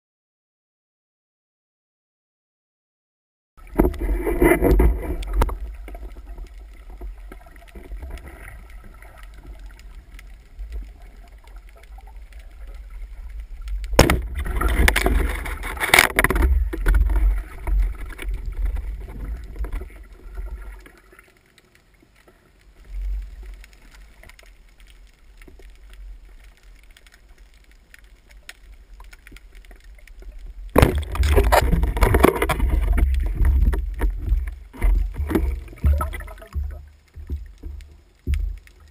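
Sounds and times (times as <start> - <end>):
swimming swishes underwater: 3.6 - 38.9
underwater rumble of moving water: 3.6 - 38.9.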